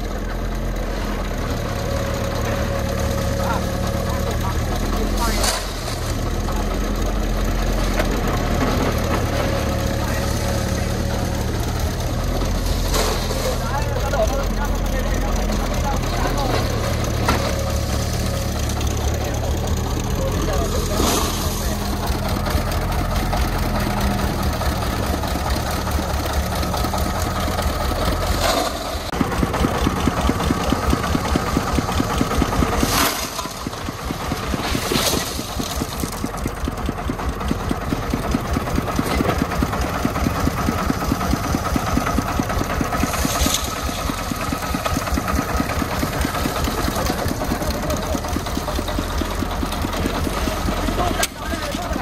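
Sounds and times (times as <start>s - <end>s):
diesel engine chugging: 0.0s - 52.0s.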